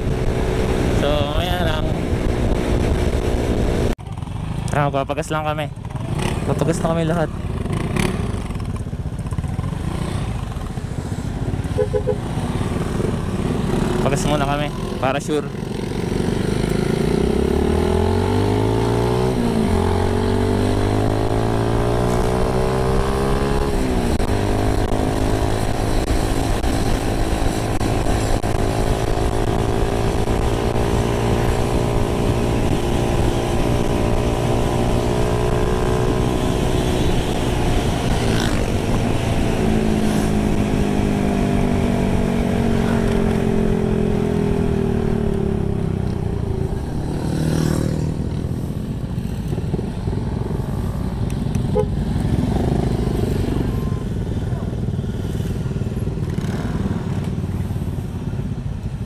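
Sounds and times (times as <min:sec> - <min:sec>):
motorcycle engine accelerating: 0:00.0 - 0:05.0, 0:05.6 - 0:57.9.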